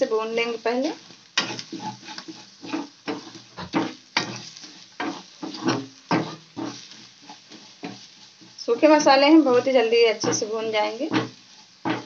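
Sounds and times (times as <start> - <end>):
spatula scraping a pan: 0.0 - 12.0
spices sizzling in hot oil: 0.0 - 12.0.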